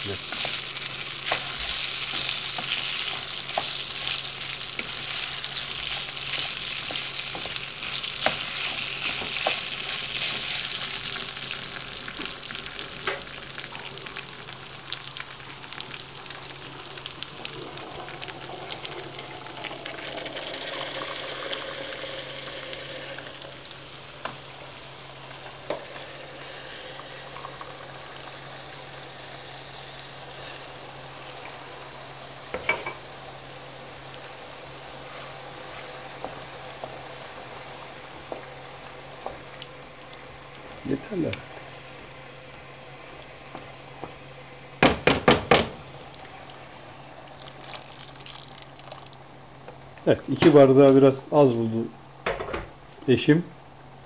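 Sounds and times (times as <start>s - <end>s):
rice sizzling in oil: 0.0s - 51.7s.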